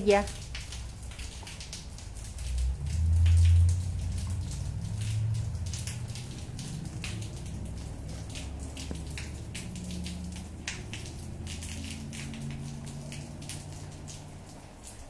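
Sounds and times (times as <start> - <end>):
light rain pattering on concrete: 0.0 - 15.0.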